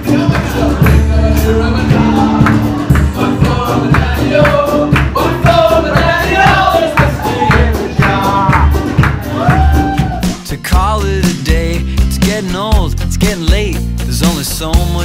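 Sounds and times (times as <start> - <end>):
band with steady beat: 0.0 - 15.0
person singing: 0.0 - 15.0.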